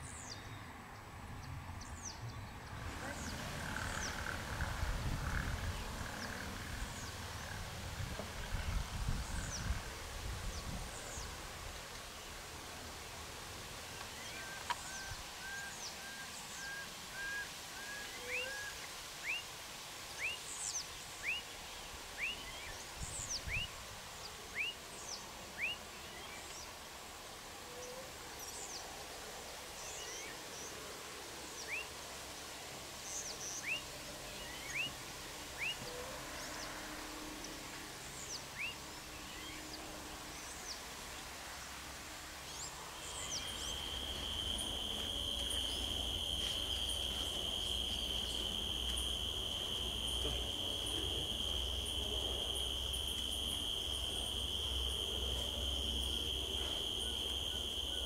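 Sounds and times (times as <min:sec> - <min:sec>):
insects humming: 0:02.8 - 0:29.0, 0:29.6 - 0:58.0.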